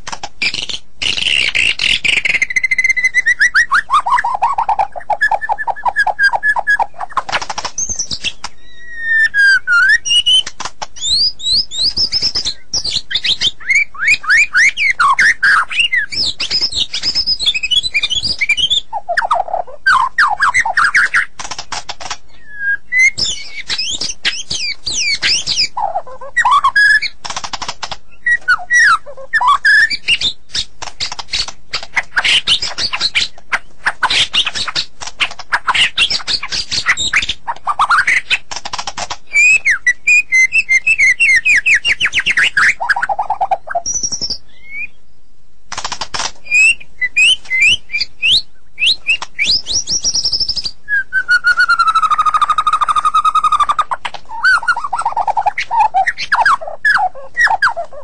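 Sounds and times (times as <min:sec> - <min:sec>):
songbird singing whistles and trills: 0:00.4 - 0:38.5, 0:39.2 - 0:45.3, 0:46.4 - 0:58.0.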